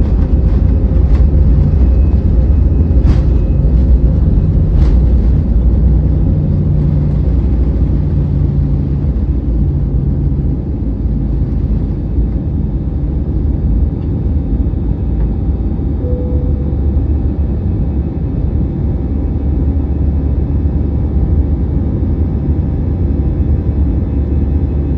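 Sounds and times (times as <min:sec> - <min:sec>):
jet engines rumbling on takeoff: 0:00.0 - 0:24.9.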